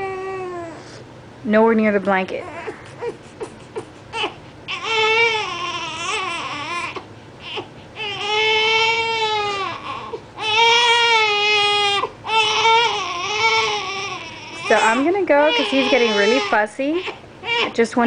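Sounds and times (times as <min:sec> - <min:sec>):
baby crying: 0:02.4 - 0:17.8.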